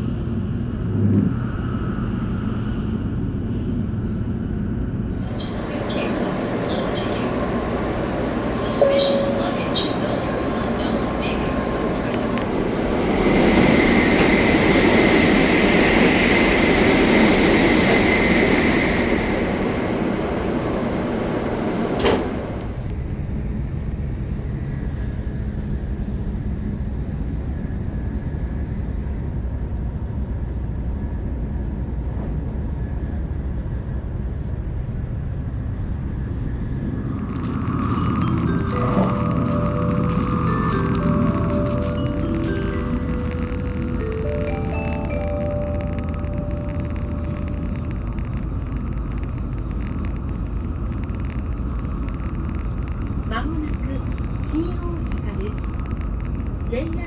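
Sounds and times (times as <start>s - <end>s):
train rumble from inside: 0.0s - 57.0s.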